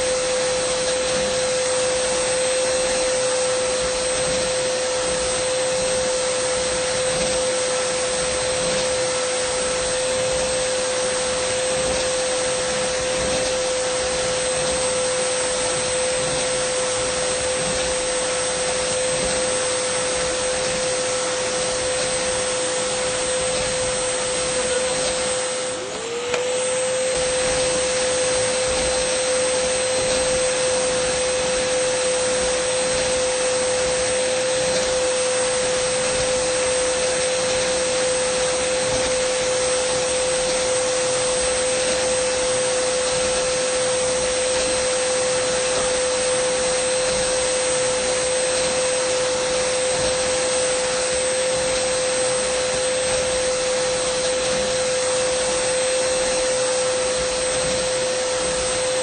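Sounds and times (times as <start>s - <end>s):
vacuum cleaner motor whining: 0.0s - 59.0s.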